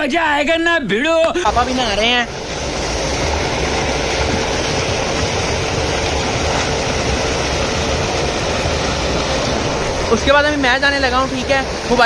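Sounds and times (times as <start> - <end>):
water gushing from pipe: 1.4 - 12.0.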